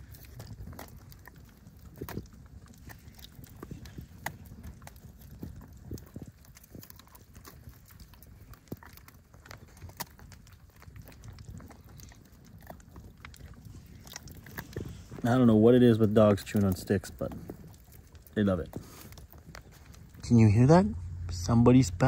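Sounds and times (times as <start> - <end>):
dog chewing wooden stick: 0.0 - 21.4.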